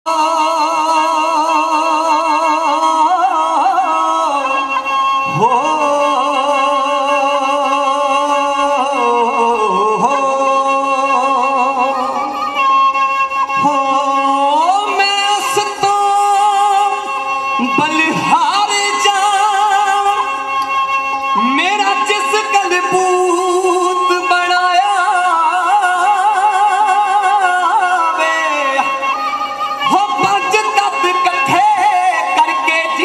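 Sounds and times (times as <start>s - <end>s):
folk song held melodic notes: 0.1s - 33.0s.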